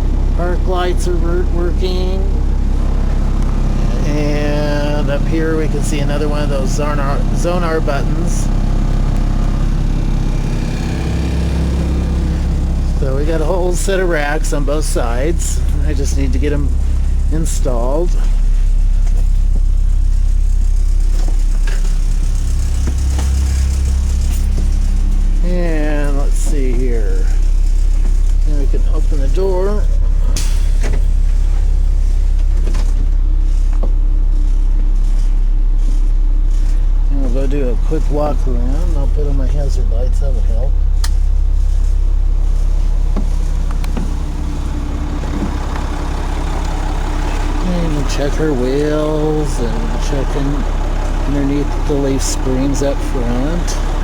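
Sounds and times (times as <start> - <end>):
bus diesel engine idling: 0.0 - 54.0.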